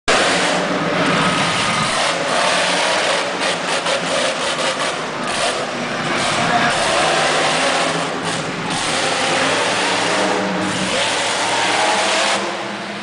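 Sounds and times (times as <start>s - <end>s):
truck engine running loudly: 0.0s - 13.0s.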